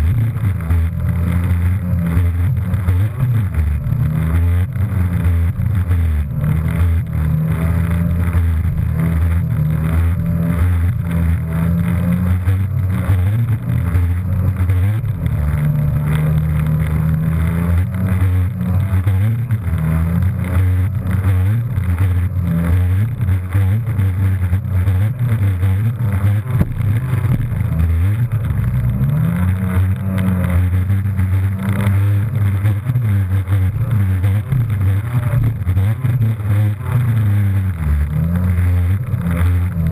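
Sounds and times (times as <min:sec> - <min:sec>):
jet ski engine revving: 0:00.0 - 0:39.9.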